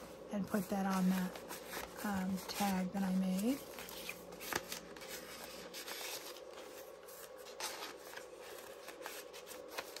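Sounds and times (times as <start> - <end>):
paper and card rustling: 0.0 - 10.0.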